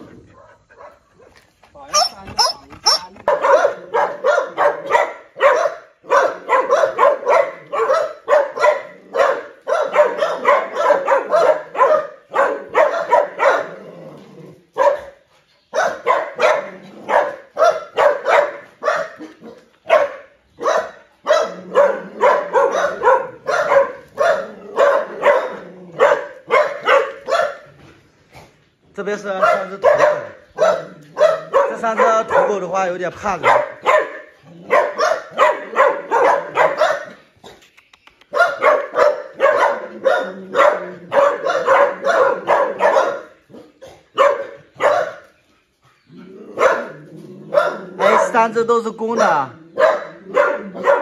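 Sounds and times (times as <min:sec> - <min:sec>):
dogs barking: 0:00.0 - 0:28.6, 0:29.2 - 0:37.6, 0:38.3 - 0:51.0.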